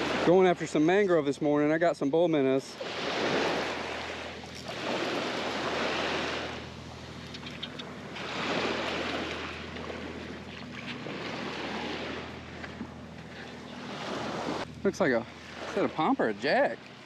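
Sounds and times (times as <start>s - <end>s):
waves washing on sandy beach: 0.0s - 17.0s.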